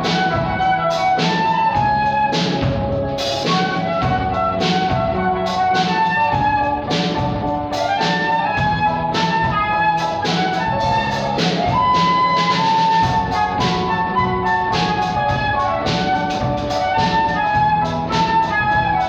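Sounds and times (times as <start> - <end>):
drum kit beat: 0.0 - 19.0
flute melody: 0.0 - 19.0
upright piano accompaniment: 0.0 - 19.0.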